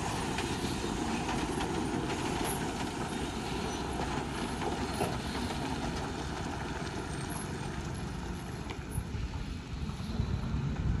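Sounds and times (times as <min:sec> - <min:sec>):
lorry diesel engine rumble: 0:00.0 - 0:11.0
tyre and road noise: 0:00.0 - 0:11.0.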